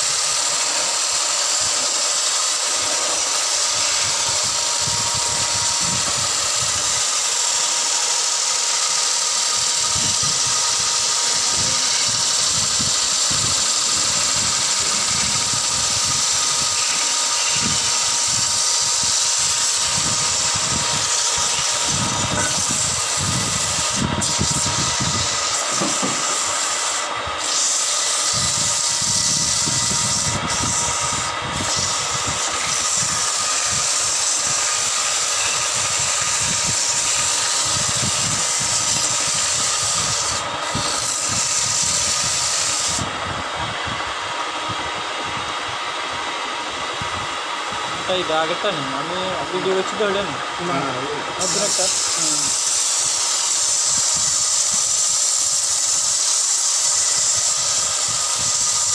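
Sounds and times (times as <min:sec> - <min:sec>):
faint lathe whine: 0:00.0 - 0:58.9
wood lathe hiss: 0:00.0 - 0:58.9.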